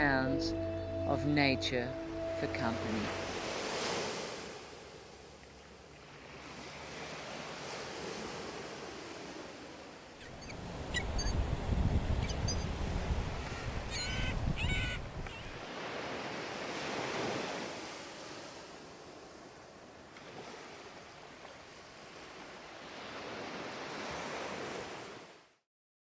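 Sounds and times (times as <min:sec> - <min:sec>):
ocean surf washing on beach: 0:02.2 - 0:05.2, 0:06.0 - 0:14.0, 0:15.6 - 0:25.4.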